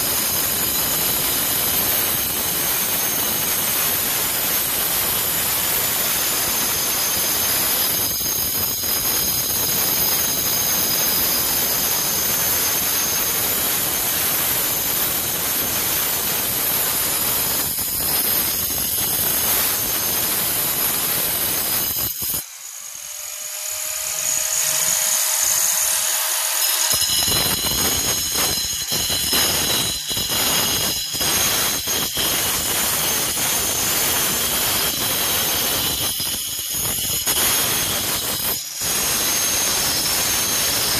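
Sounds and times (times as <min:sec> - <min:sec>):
angle grinder cutting stone: 0:00.0 - 0:40.9.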